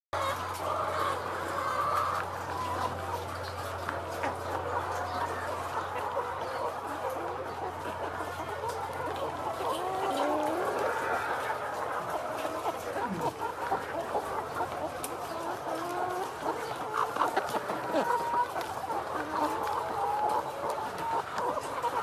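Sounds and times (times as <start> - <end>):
hens clucking in chorus: 0.2 - 22.0.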